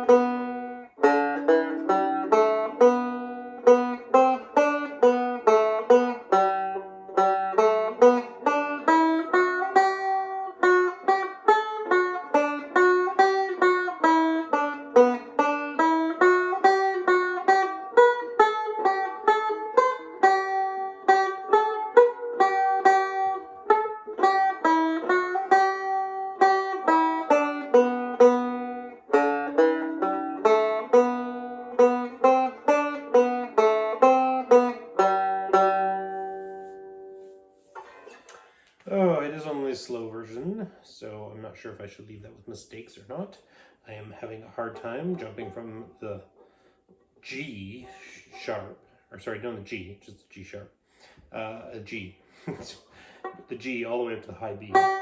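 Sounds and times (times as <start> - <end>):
solo banjo picking: 0.0 - 55.0.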